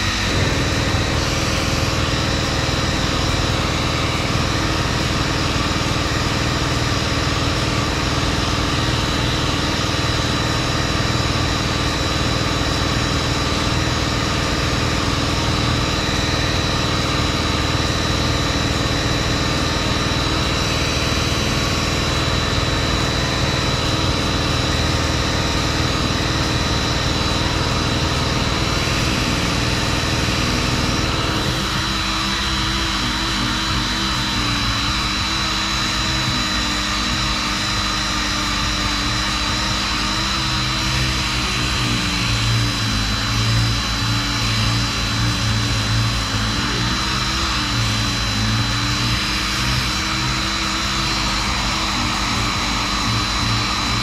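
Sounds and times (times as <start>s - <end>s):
orbital sander whining: 0.0s - 54.0s.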